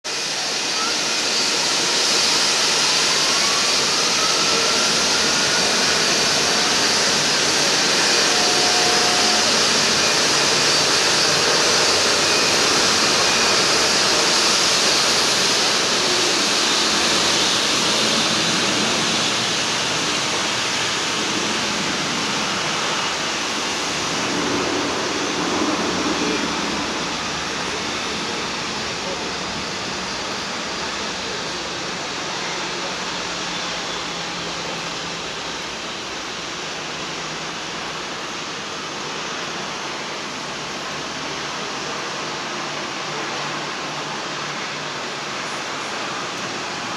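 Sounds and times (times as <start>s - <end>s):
high engine whine: 0.1s - 46.9s
jet engines rushing: 0.1s - 46.9s.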